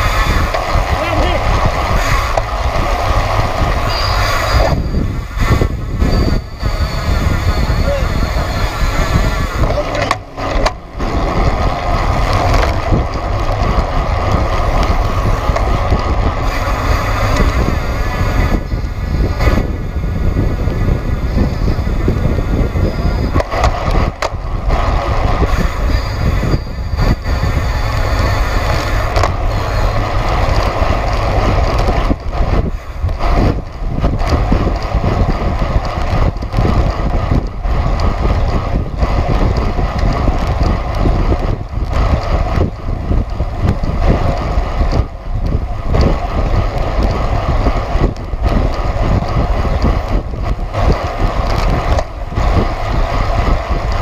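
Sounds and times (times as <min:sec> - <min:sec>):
bicycle tyres rolling on asphalt: 0:00.0 - 0:54.0
wind rushing over microphone: 0:00.0 - 0:54.0.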